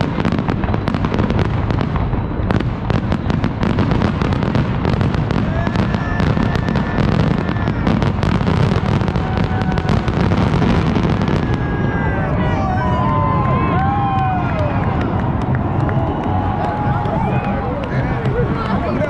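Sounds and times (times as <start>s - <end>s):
continuous low rumble: 0.0s - 19.0s
fireworks bursting and crackling: 0.0s - 19.0s.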